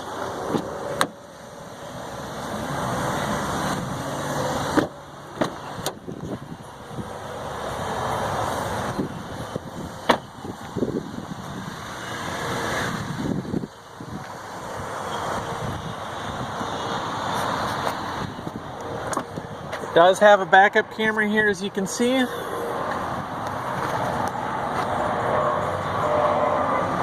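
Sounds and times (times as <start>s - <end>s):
vehicles passing by: 0.0s - 27.0s.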